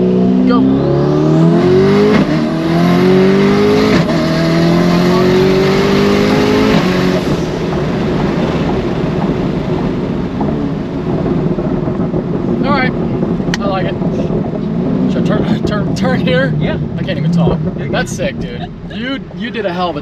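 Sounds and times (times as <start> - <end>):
car engine at full throttle: 0.0 - 20.0
road and wind rush: 0.0 - 20.0.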